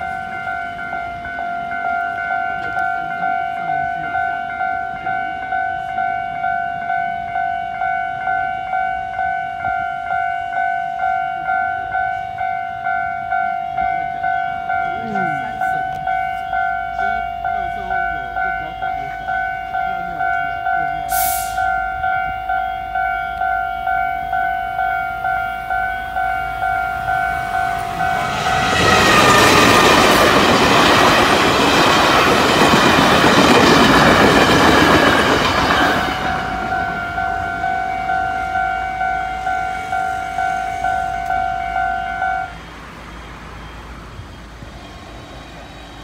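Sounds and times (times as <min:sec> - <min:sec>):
train wheels on rails: 0:00.0 - 0:08.5, 0:09.1 - 0:46.0
level crossing bell ringing: 0:00.0 - 0:32.7, 0:33.4 - 0:42.5.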